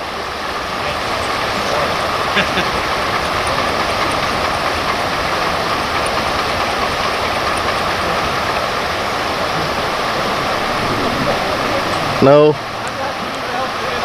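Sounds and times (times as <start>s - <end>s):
fast river rushing: 0.0s - 14.0s.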